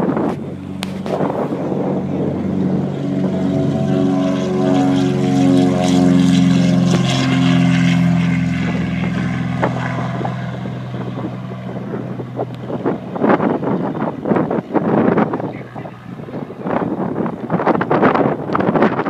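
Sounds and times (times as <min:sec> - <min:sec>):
propeller airplane engines droning: 0:00.0 - 0:19.0
wind buffeting microphone: 0:00.0 - 0:19.0.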